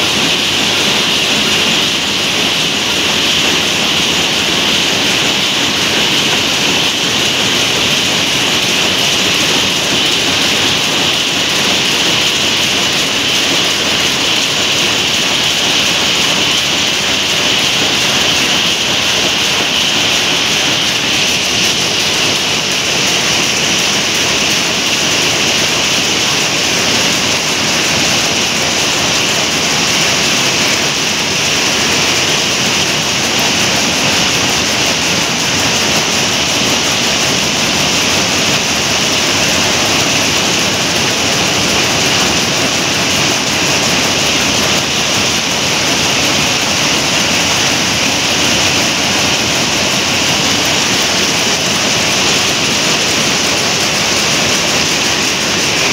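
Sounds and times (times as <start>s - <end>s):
power looms weaving: 0.0s - 55.9s.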